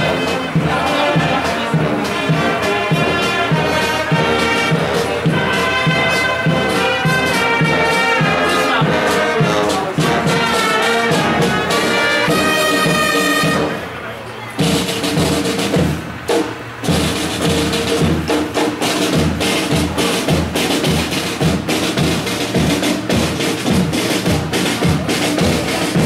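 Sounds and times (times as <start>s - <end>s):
marching drum beat: 0.0s - 13.8s, 14.6s - 26.0s
brass fanfare trumpets: 0.0s - 26.0s.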